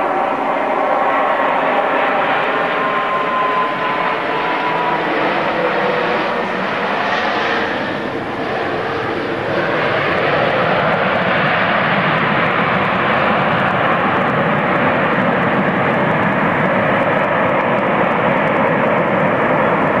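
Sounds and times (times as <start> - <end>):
jet engine noise on runway: 0.0 - 20.0.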